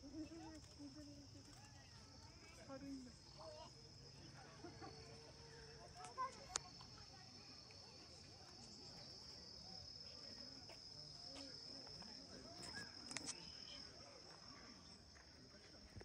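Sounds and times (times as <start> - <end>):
faint distant voices: 0.0 - 16.0
insects chirring: 0.0 - 16.0.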